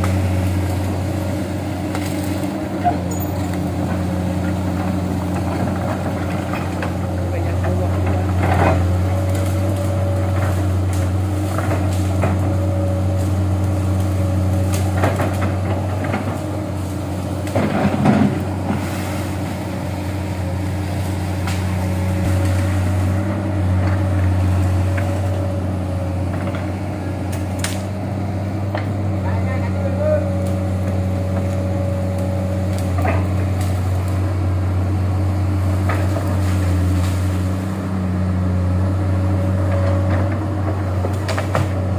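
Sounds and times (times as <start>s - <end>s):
branches cracking and crunching: 0.0s - 41.9s
excavator diesel engine running: 0.0s - 41.9s.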